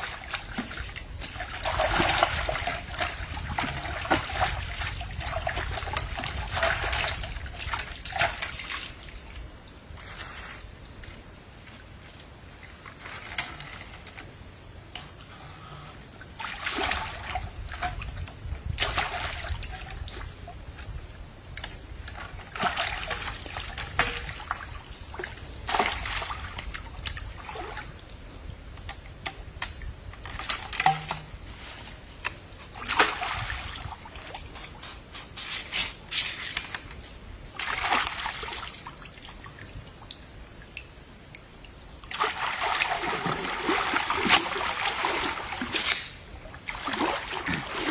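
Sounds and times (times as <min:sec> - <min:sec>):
water splashing and sloshing: 0:00.0 - 0:47.9.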